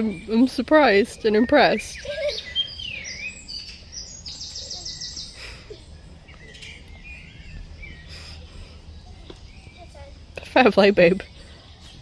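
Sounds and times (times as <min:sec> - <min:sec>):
low background rumble: 0:00.0 - 0:12.0
small birds singing: 0:00.0 - 0:12.0.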